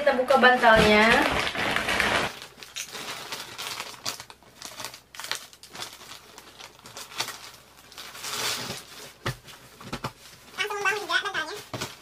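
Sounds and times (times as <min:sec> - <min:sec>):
plastic packaging crinkling: 0:00.3 - 0:12.0.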